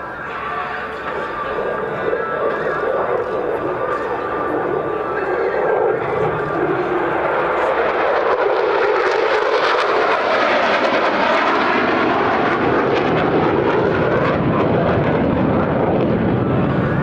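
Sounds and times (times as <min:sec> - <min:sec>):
jet engine roaring and crackling: 0:00.0 - 0:17.0.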